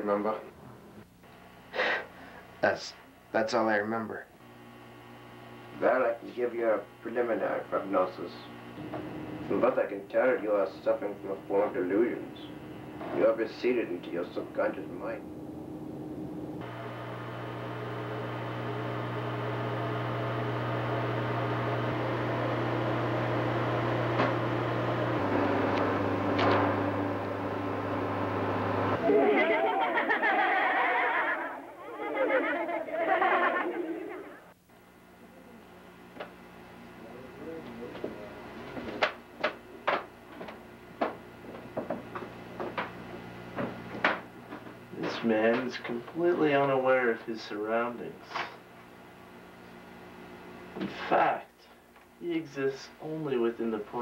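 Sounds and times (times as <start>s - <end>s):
low hum with hiss: 0.0s - 54.0s.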